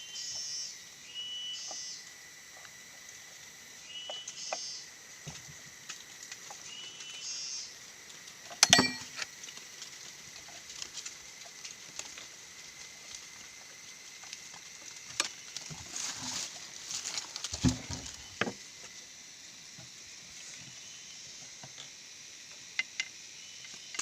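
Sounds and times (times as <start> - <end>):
faint high whine: 0.0 - 9.4, 12.3 - 24.0.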